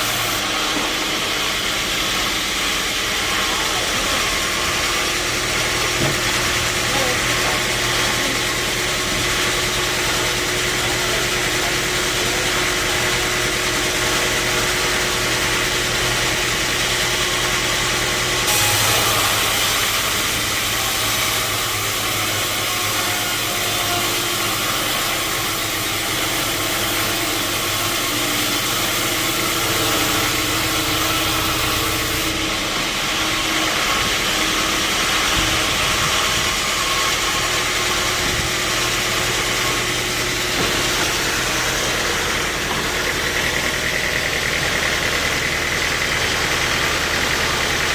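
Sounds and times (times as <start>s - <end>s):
sawmill machinery drone: 0.0s - 47.9s.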